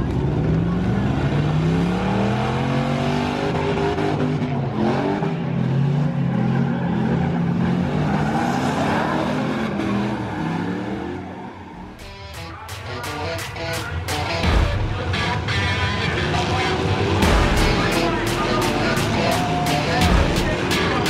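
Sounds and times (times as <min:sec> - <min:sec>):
race truck engines revving: 0:00.0 - 0:21.0.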